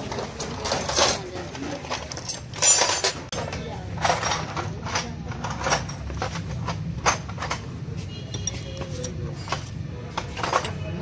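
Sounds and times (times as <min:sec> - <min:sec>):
metal tools clinking: 0:00.0 - 0:11.0.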